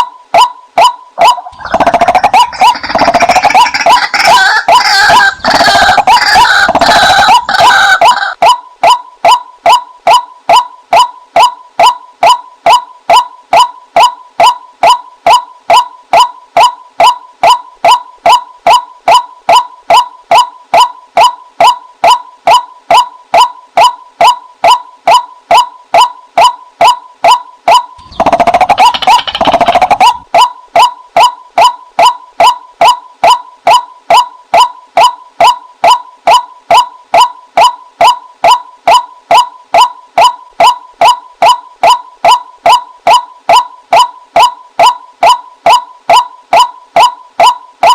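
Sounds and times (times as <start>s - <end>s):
waterhen call notes: 0.4s - 47.9s.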